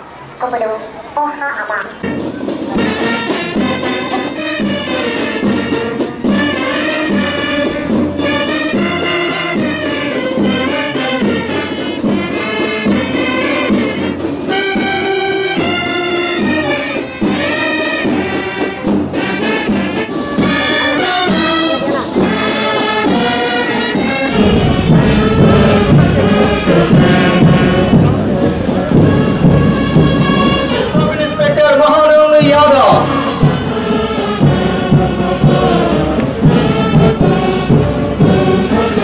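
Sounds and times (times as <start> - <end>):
brass band music: 0.4 - 39.0.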